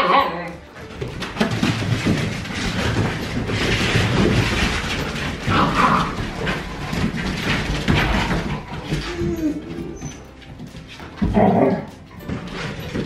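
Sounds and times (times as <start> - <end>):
claws clicking on hard floor: 0.1 - 13.0
dogs' bodies bumping: 0.1 - 13.0.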